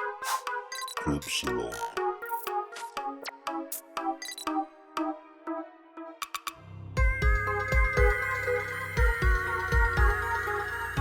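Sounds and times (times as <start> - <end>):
electronic synth music: 0.0 - 11.0.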